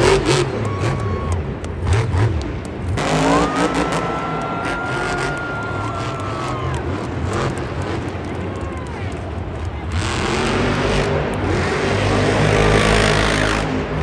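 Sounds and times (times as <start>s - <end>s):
truck engines revving and rumbling: 0.0s - 14.0s.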